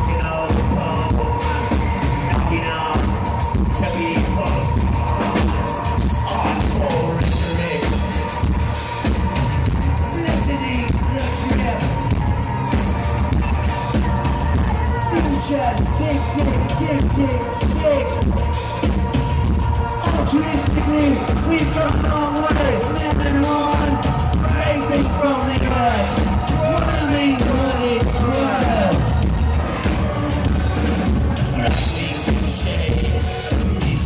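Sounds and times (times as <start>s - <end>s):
live industrial band music: 0.0s - 34.0s
pounding drum beat: 0.0s - 34.0s.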